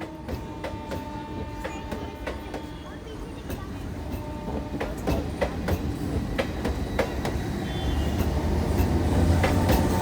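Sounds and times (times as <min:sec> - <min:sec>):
train rumble on rails: 0:00.0 - 0:10.0
wheels clacking over rail joints: 0:00.0 - 0:10.0.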